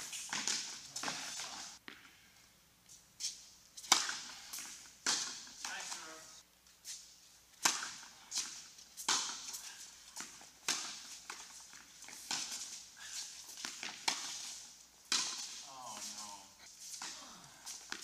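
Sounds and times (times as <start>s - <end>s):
tennis balls bouncing on court: 0.0s - 2.2s, 3.8s - 6.2s, 7.5s - 18.0s
tennis balls struck by rackets: 0.0s - 2.2s, 3.8s - 6.2s, 7.5s - 18.0s.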